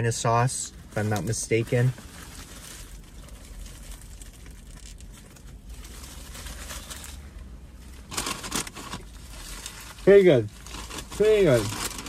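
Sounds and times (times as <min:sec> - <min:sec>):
foil wrapper crinkling: 0:01.0 - 0:12.0.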